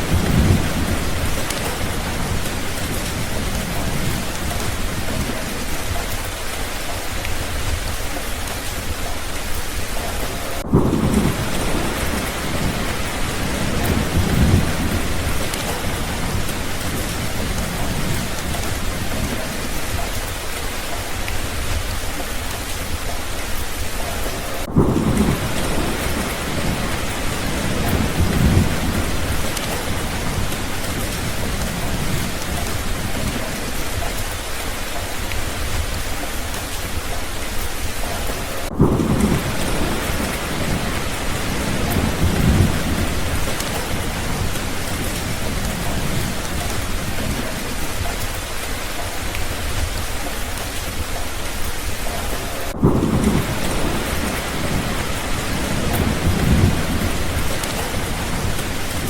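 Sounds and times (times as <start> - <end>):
heavy rain falling: 0.0 - 59.0
thunder rumbling: 0.0 - 59.0.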